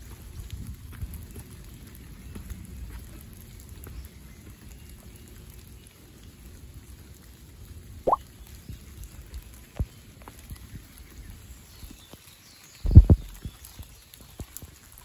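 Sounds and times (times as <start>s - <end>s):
rain pattering and dripping: 0.0s - 15.0s.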